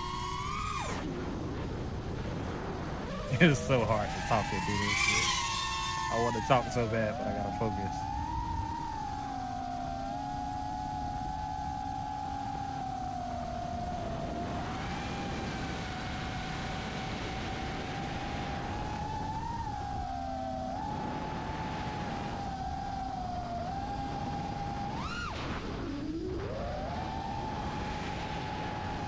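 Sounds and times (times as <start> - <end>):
quadcopter motors whining: 0.0 - 1.4, 3.0 - 29.0.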